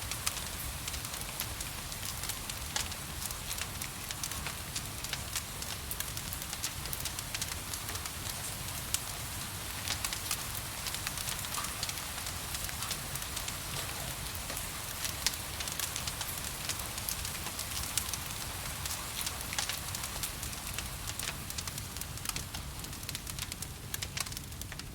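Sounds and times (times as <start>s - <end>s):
gentle rain: 0.0s - 24.9s
wood fire crackling and popping: 0.0s - 24.9s.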